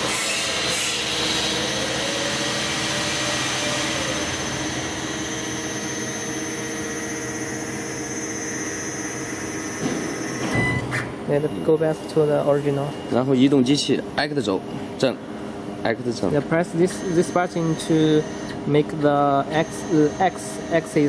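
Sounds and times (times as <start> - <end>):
stepper motors whining: 0.0 - 12.9, 16.3 - 21.0
noisy hum: 0.0 - 21.0.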